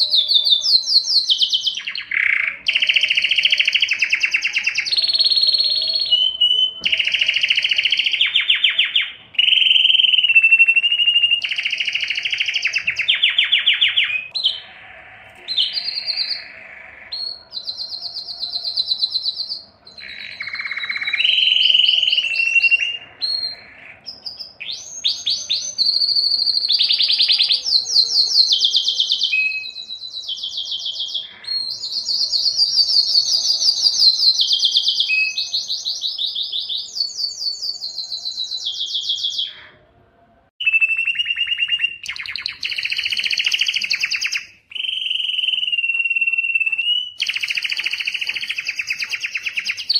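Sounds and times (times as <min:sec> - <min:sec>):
canary singing fast trills: 0:00.0 - 0:39.9, 0:40.6 - 0:49.9.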